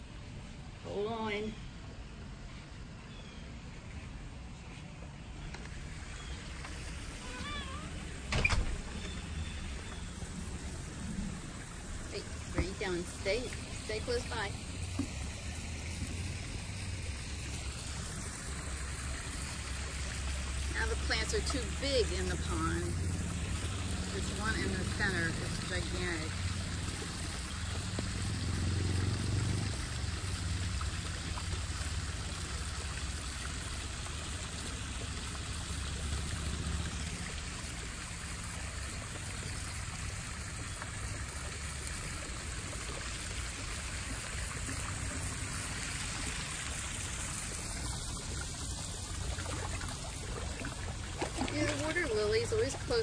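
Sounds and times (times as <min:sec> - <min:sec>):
small waterfall splashing into pond: 0:05.6 - 0:53.0.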